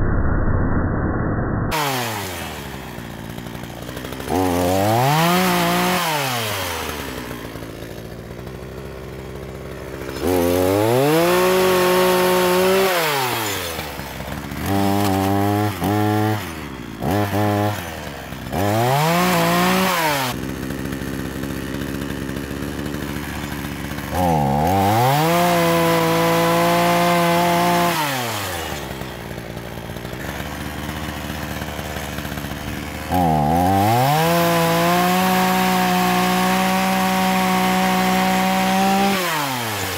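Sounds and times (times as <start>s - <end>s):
chainsaw revving: 1.7s - 39.9s
saw cutting thin branches: 1.7s - 39.9s.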